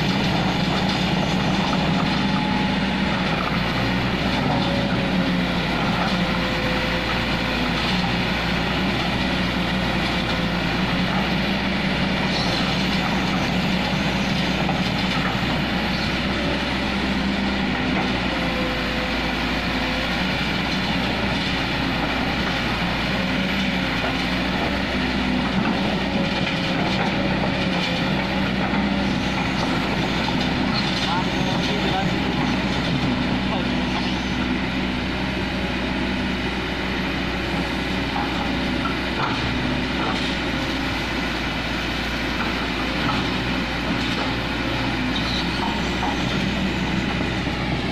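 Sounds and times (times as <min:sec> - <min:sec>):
excavator diesel engine running: 0:00.0 - 0:47.9
excavator tracks rattling: 0:00.0 - 0:47.9.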